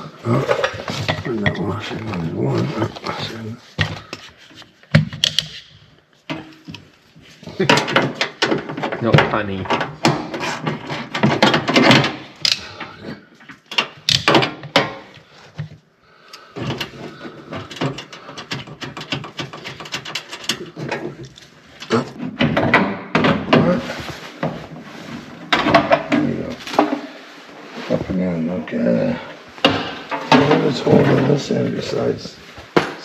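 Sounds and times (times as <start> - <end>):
hard objects knocking and clattering: 0.0 - 27.2, 29.2 - 33.0.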